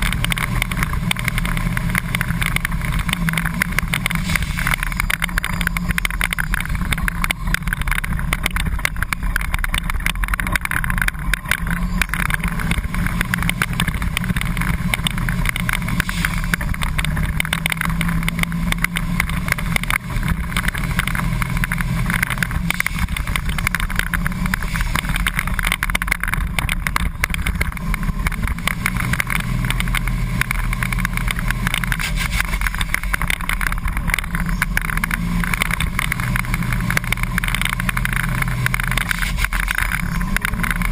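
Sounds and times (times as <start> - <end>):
bus engine droning: 0.0 - 40.9.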